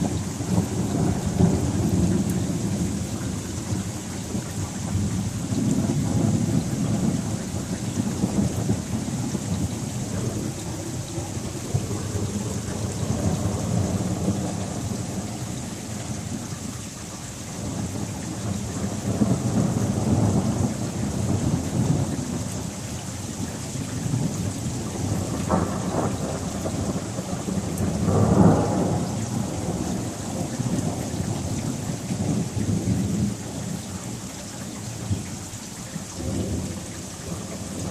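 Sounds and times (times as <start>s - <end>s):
thunder rumbling: 0.0s - 16.6s, 17.6s - 22.8s, 23.4s - 35.3s, 36.2s - 37.9s
rain falling: 0.0s - 37.9s.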